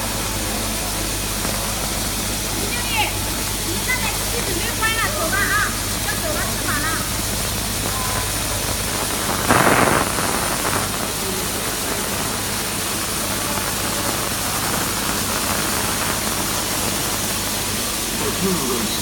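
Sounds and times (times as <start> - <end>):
printer machine hum and hiss: 0.0 - 19.0.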